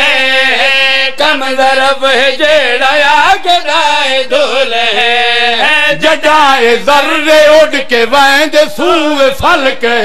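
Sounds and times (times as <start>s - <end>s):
men chanting into a microphone: 0.0s - 10.0s.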